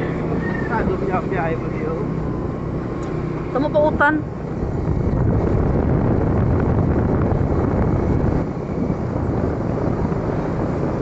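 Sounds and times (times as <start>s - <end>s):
motorcycle noise: 0.0s - 11.0s
wind buffeting microphone: 0.0s - 11.0s.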